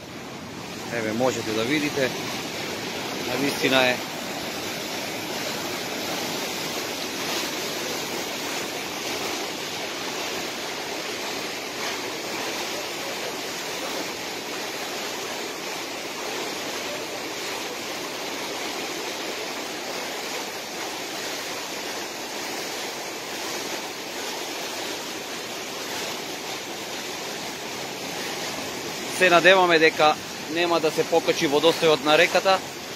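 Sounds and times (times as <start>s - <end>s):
river rushing: 0.0s - 32.9s.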